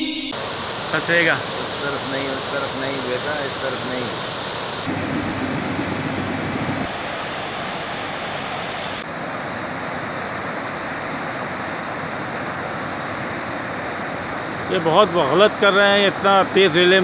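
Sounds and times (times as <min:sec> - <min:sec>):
floodwater rushing: 0:00.4 - 0:17.0.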